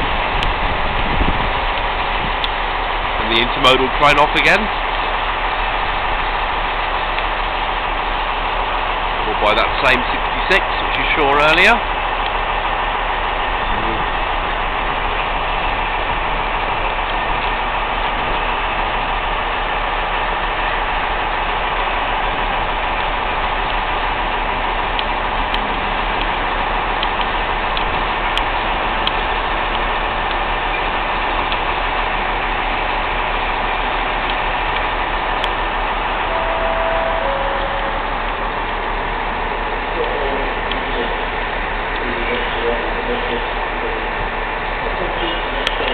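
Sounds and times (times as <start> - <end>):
diesel freight train rolling: 0.0 - 45.9
wheels clicking on rails: 0.0 - 45.9.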